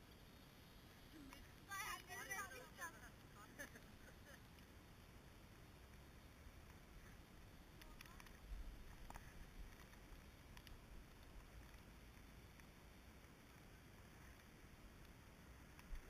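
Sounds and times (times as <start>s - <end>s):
faint low rumble: 0.0s - 16.0s.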